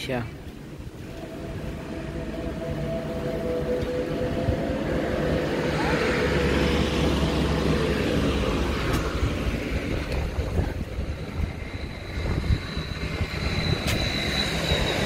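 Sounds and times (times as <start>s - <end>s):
passing vehicle engine: 0.9s - 15.0s.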